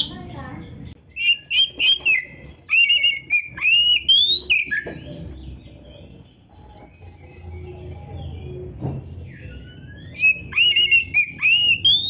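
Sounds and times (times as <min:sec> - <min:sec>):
songbird singing whistled phrases: 0:00.0 - 0:05.1, 0:06.5 - 0:12.0.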